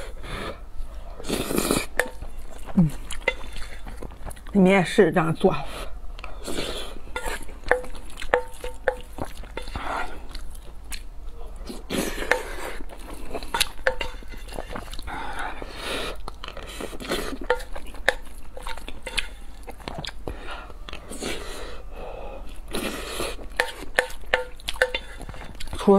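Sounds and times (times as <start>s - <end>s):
chewing and mouth sounds: 1.2s - 4.6s, 6.2s - 21.4s, 22.4s - 25.9s.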